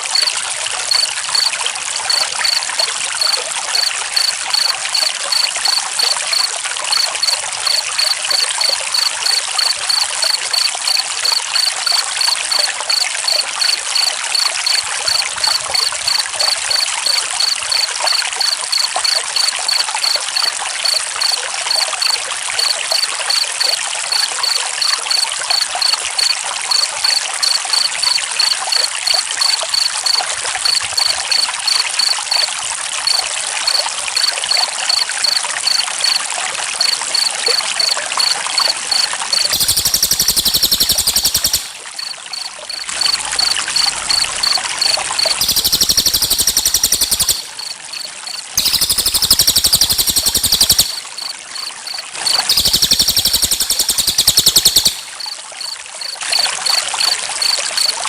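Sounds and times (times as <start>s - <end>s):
cricket chirping: 0.0s - 58.0s
stream trickling: 0.0s - 58.0s.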